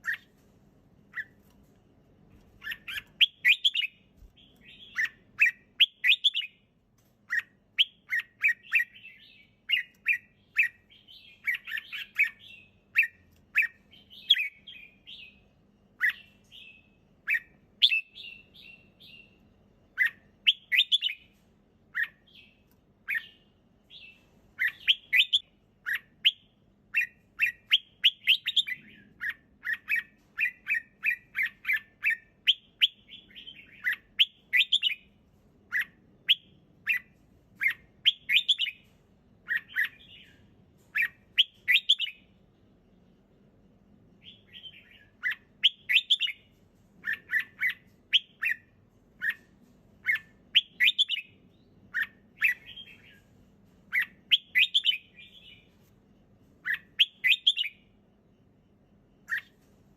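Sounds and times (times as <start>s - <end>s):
bird chirping song: 0.0s - 1.7s, 2.3s - 59.9s.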